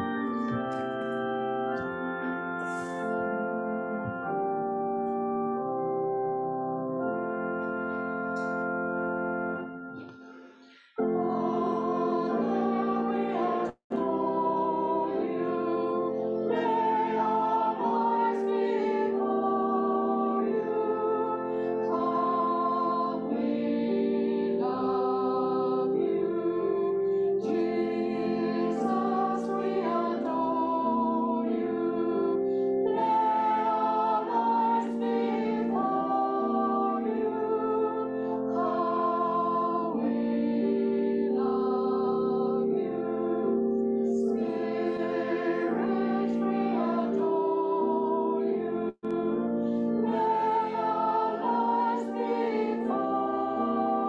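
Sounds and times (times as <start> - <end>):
choir and congregation singing hymn: 0.0 - 1.1, 1.7 - 4.5, 7.0 - 54.0.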